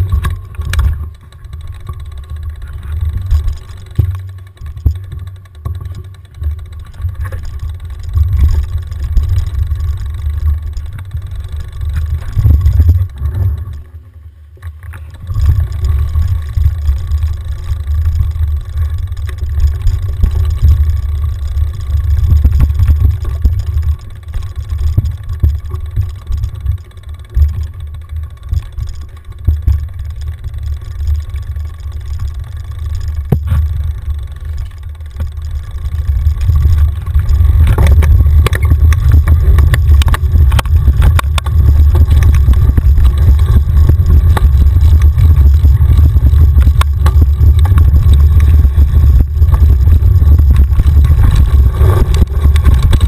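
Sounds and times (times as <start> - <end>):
wind rumble on microphone: 0.0 - 13.9, 14.7 - 53.0
bike rattling over bumpy ground: 0.0 - 53.0.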